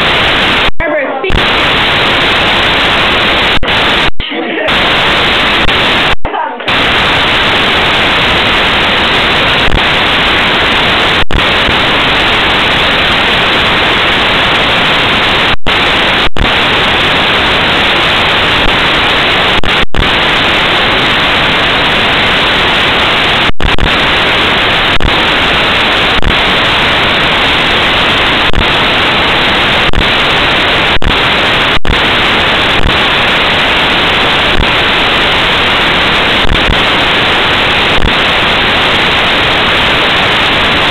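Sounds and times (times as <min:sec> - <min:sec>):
loud static hiss: 0:00.0 - 0:40.9.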